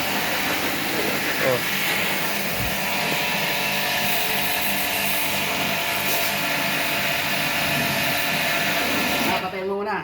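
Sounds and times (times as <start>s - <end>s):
whining motor hum: 0.0s - 9.6s.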